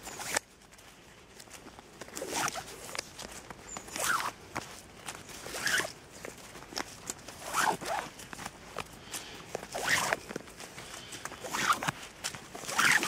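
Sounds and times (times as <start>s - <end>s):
bootlace pulled through eyelets: 0.0s - 13.0s.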